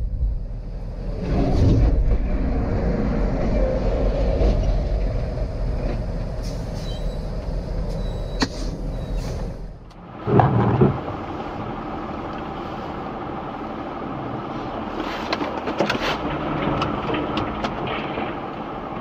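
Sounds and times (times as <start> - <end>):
vehicle engine rumble and road noise: 0.0 - 19.0.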